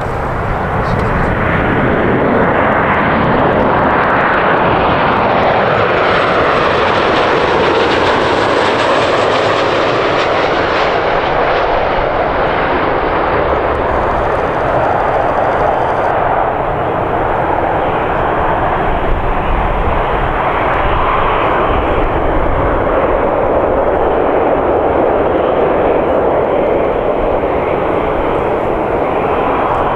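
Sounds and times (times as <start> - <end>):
jet airliner passing: 0.0 - 29.9.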